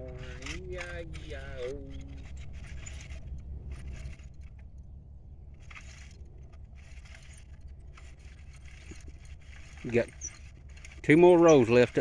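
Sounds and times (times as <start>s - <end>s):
steady low rumble: 0.0s - 11.1s
push seeder rattling and jingling: 0.0s - 12.0s.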